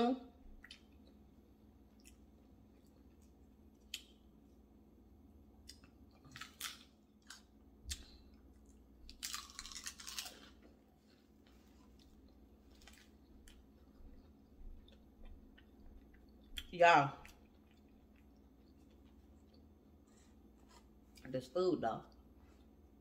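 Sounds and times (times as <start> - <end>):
chewing and crunching food: 0.5 - 4.6, 5.5 - 21.3.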